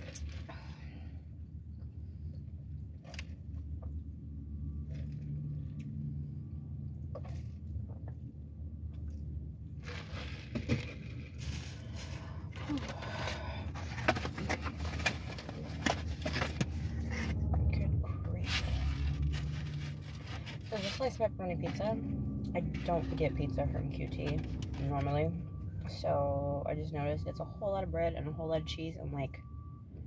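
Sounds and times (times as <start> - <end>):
low hum inside car: 0.0 - 30.0.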